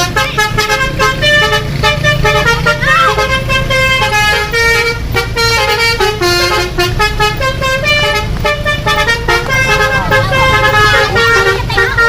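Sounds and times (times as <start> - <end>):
bus horn playing a tune: 0.0 - 12.0.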